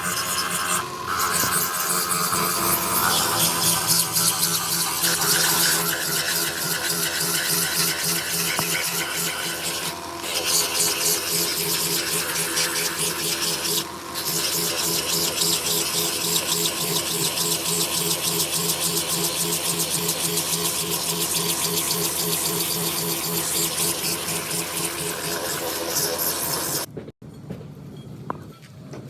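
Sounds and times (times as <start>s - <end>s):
power tool rasping rubber: 0.0s - 26.9s.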